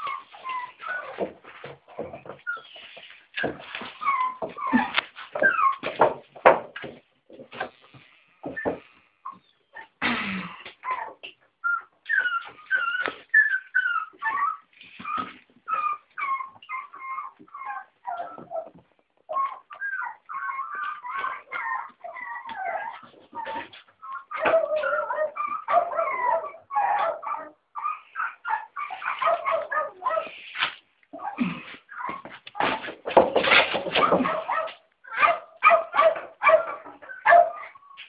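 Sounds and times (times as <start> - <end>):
puppies whining and whimpering: 0.0 - 6.1, 10.7 - 30.5, 31.1 - 32.9, 33.9 - 38.0.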